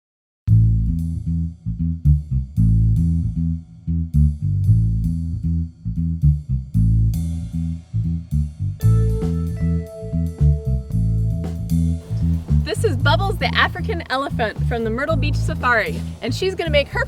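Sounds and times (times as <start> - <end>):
plucked bass guitar with steady beat: 0.5 - 17.0.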